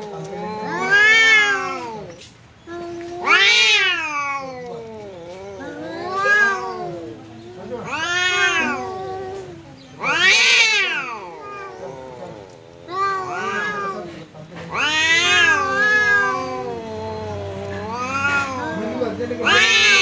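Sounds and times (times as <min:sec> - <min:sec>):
cat low drawn-out moan: 0:00.0 - 0:02.1, 0:02.7 - 0:20.0
cats yowling: 0:00.0 - 0:20.0.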